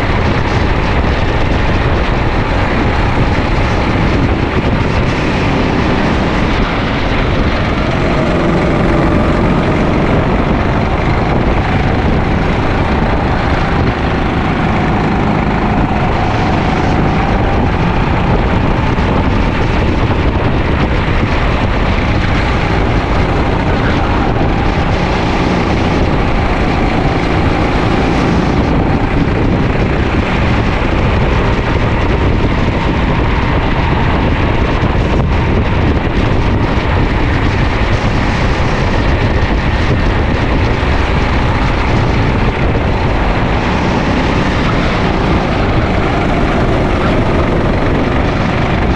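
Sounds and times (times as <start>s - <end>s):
air and tyre noise: 0.0s - 48.9s
kart engine revving: 0.0s - 48.9s.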